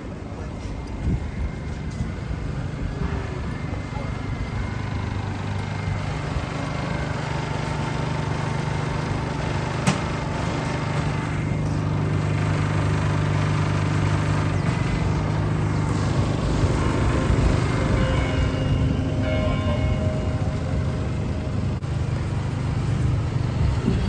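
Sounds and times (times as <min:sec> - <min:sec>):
small engine humming: 0:00.0 - 0:24.0.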